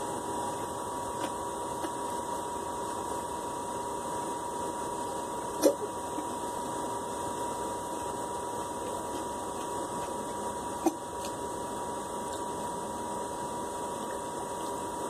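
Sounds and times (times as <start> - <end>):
high constant whine: 0.0 - 15.0.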